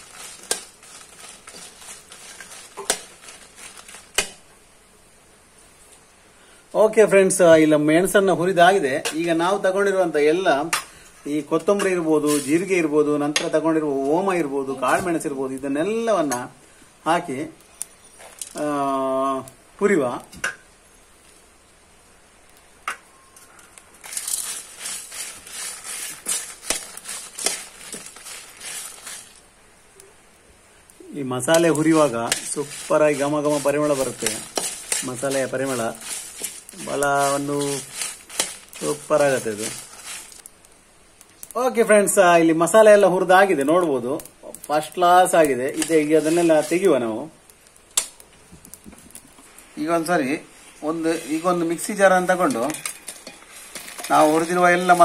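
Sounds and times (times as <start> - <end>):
chillies rustling in a pan: 0.0 - 4.6, 6.7 - 20.3, 23.4 - 29.6, 31.0 - 55.0.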